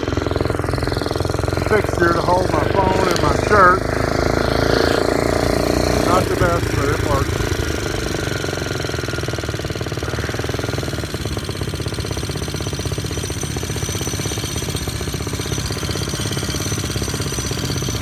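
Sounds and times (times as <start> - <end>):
single-cylinder engine running: 0.0 - 18.0.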